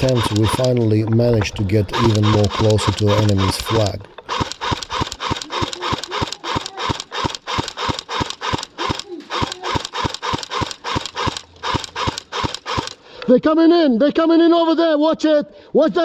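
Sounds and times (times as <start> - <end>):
running footsteps: 0.0 - 13.2.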